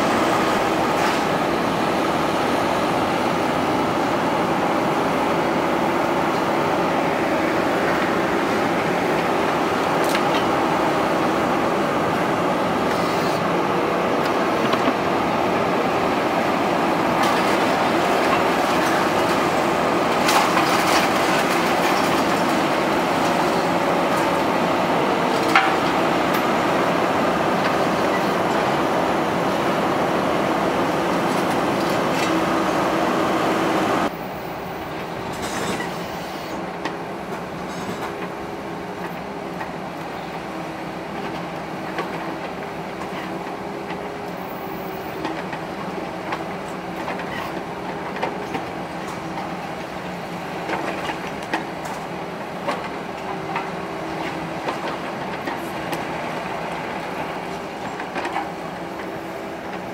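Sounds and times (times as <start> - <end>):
excavator diesel engine and hydraulics: 0.0 - 59.9.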